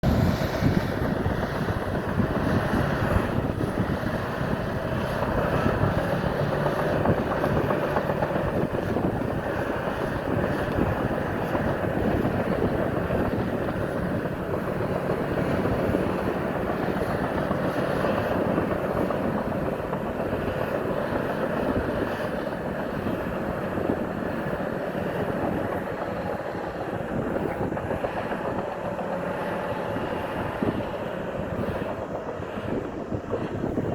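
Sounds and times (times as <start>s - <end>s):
bulldozer diesel engine running: 0.0s - 33.9s.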